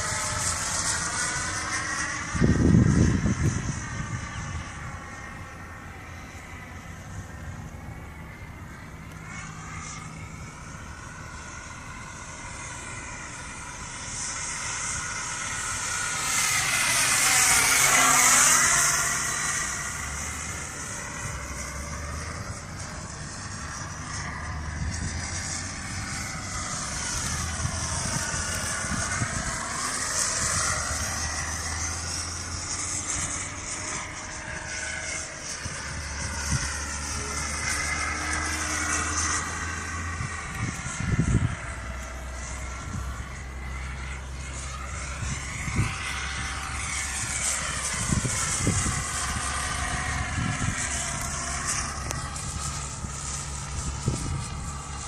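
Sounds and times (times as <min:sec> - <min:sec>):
model airplane motor whining: 0:00.0 - 0:55.0.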